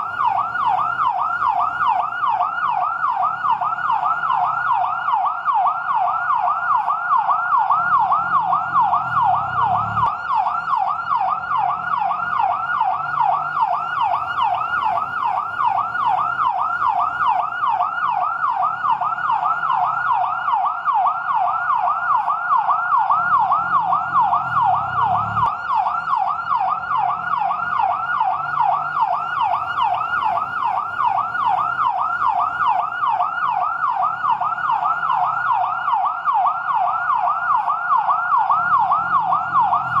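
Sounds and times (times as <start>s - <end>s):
fire truck siren yelp: 0.0s - 40.0s.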